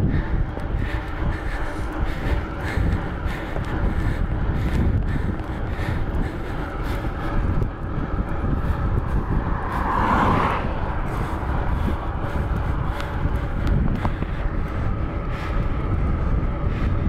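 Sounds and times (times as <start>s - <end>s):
bicycle road noise: 0.0s - 17.0s
wind rumbling on microphone: 0.0s - 17.0s.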